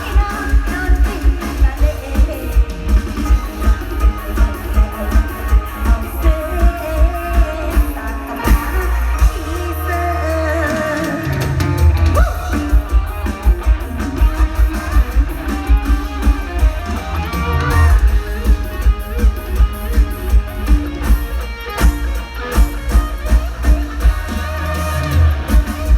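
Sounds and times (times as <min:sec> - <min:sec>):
live band music over loudspeakers: 0:00.0 - 0:25.9
plucked electric lead: 0:00.0 - 0:25.9.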